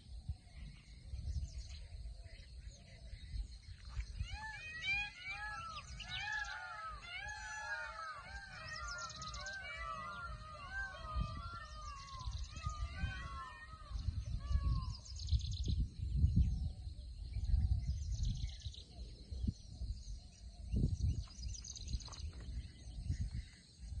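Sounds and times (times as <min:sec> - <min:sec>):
wind rumble on microphone: 0:00.0 - 0:24.0
birds chirping and calling: 0:00.3 - 0:24.0.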